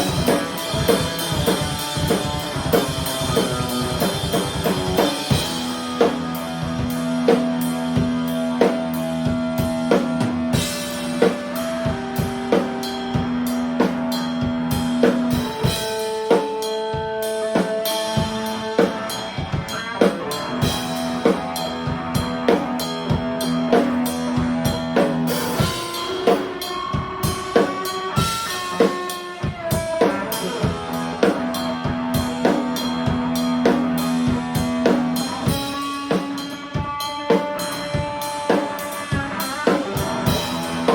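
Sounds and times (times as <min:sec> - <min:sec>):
drum kit beat: 0:00.0 - 0:40.9
electric guitar sustained notes: 0:00.0 - 0:40.9.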